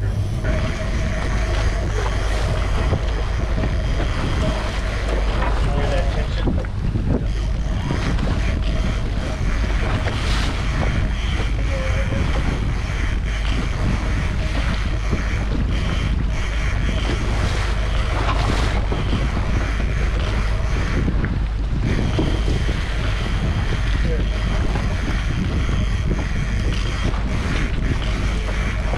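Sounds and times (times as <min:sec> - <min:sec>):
water rushing along hull: 0:00.0 - 0:28.9
wind buffeting microphone: 0:00.0 - 0:28.9.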